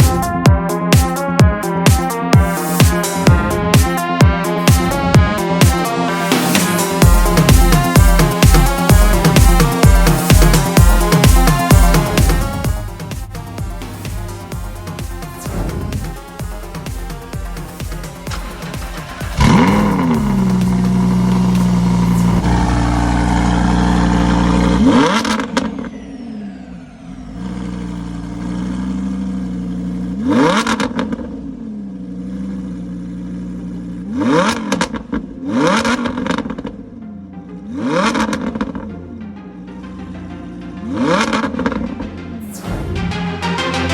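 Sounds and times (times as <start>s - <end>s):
car engine idling: 0.0s - 43.9s
car engine revving: 0.0s - 43.9s.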